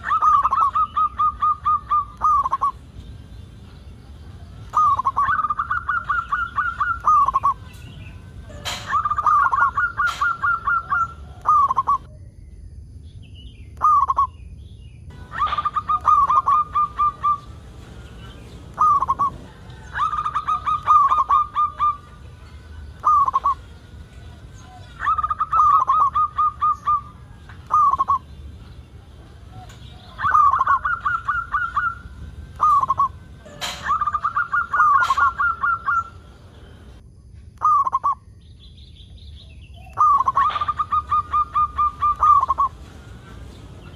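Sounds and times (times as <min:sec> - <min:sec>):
dove cooing: 0:00.0 - 0:02.8, 0:04.2 - 0:12.1, 0:15.2 - 0:28.4, 0:29.0 - 0:37.0, 0:39.9 - 0:43.9.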